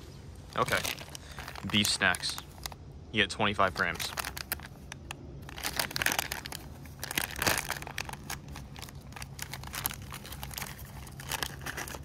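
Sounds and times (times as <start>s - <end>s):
plastic pouch crinkling: 0.4s - 2.8s, 3.6s - 12.0s
pouch ripping open: 0.5s - 2.8s, 3.8s - 4.8s, 5.4s - 12.0s.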